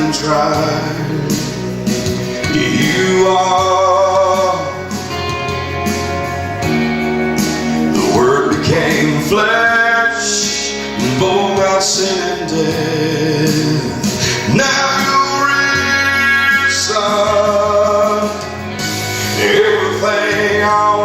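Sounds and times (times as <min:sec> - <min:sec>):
person singing: 0:00.0 - 0:05.7, 0:07.8 - 0:21.0
guitar accompaniment: 0:00.0 - 0:21.0.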